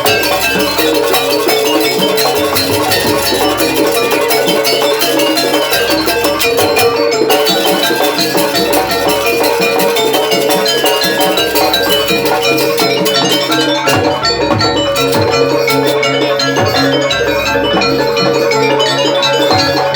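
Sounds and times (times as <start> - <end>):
gamelan-style percussion ensemble: 0.0 - 19.9.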